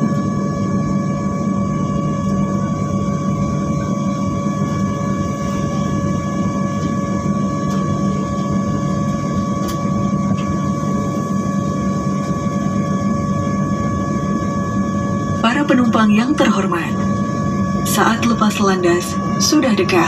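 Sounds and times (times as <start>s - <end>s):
airliner cabin hum and whine: 0.0s - 20.0s.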